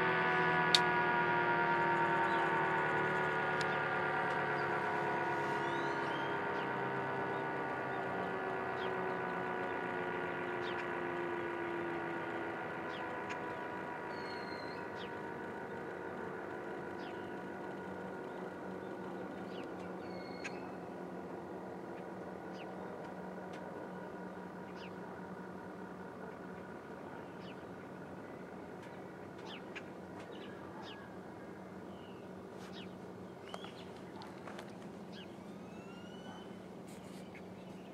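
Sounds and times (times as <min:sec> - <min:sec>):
low drone of held tones: 0:00.0 - 0:37.9
small birds chirping: 0:02.2 - 0:37.9.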